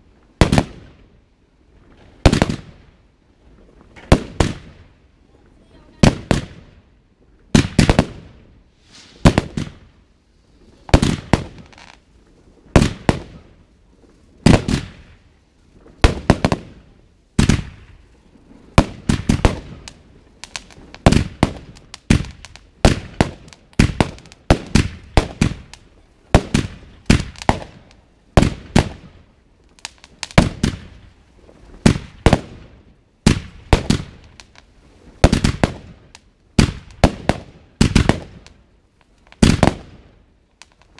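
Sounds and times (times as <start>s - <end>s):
fireworks bangs: 0.4s - 1.1s, 1.8s - 2.9s, 3.6s - 6.9s, 7.5s - 10.0s, 10.6s - 40.9s.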